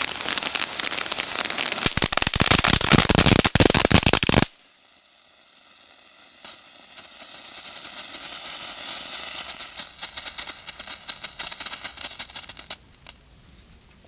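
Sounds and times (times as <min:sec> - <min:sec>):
firework fountain crackling hiss: 0:00.0 - 0:13.4.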